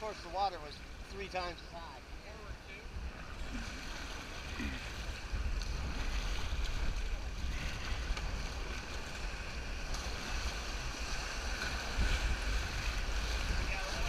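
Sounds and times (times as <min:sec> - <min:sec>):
river water rushing: 0:00.0 - 0:14.0
wind buffeting microphone: 0:02.1 - 0:14.0.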